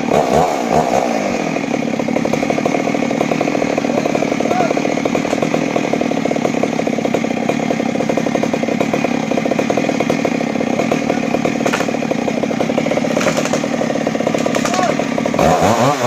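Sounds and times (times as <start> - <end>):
chainsaw engine running: 0.0 - 16.0.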